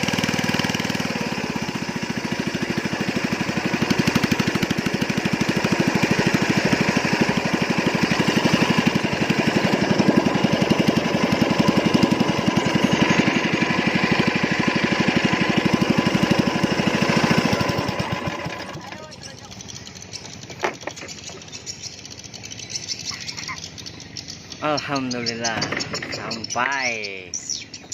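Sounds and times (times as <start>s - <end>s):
small single-cylinder engine running: 0.0s - 27.9s.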